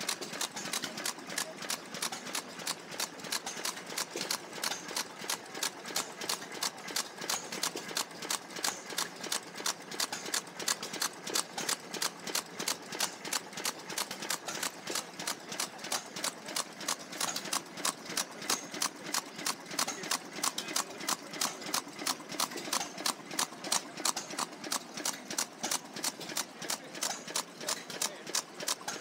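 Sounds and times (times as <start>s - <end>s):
stationary engine knocking: 0.0s - 29.0s.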